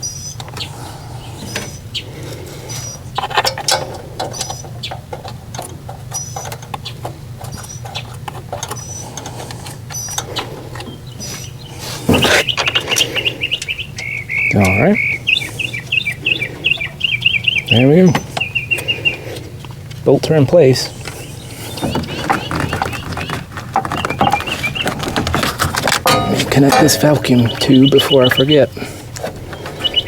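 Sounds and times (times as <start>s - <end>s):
birds chirping: 0.0s - 30.0s
steady low hum: 0.0s - 30.0s.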